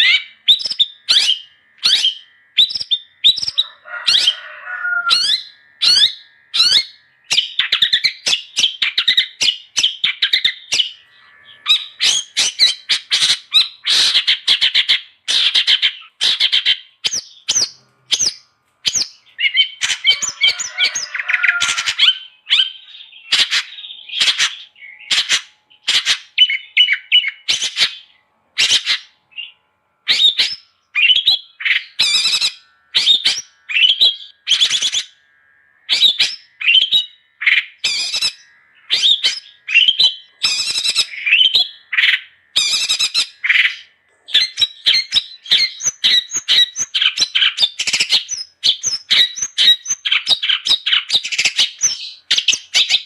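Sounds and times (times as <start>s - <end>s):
shrike chattering song: 0.0s - 29.5s, 35.9s - 53.0s.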